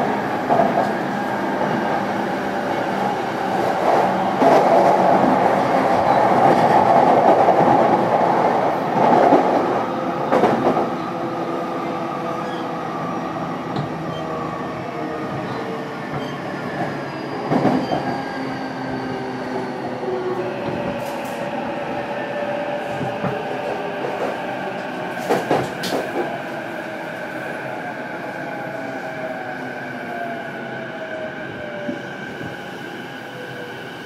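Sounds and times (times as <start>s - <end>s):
rail rumble and wheel clatter: 0.0s - 34.0s.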